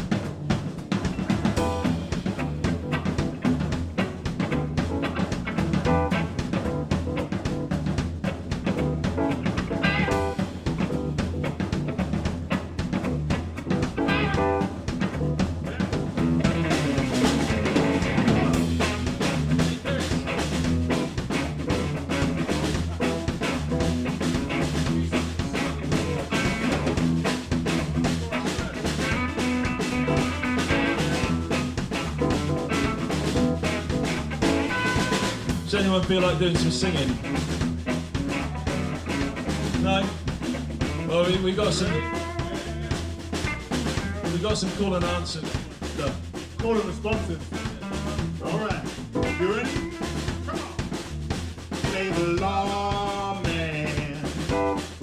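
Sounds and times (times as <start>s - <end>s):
blues band instrumental: 0.0s - 55.0s.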